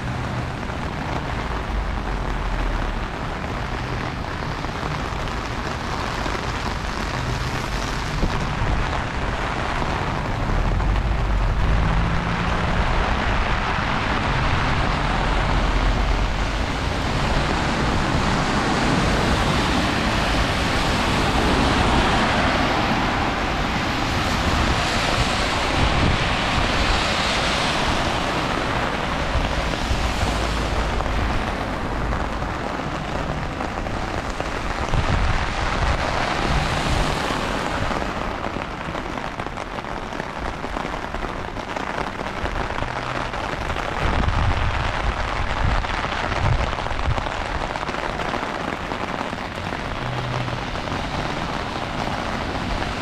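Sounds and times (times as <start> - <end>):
heavy rain falling: 0.0 - 53.0
low rumbles: 0.0 - 53.0.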